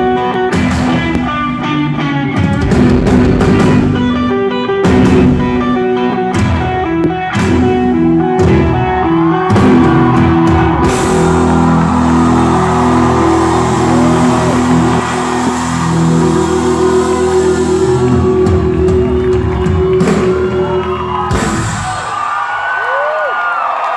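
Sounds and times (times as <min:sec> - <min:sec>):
electric guitar: 0:00.0 - 0:22.1
live rock band playing: 0:00.0 - 0:22.2
drum kit: 0:00.0 - 0:22.3.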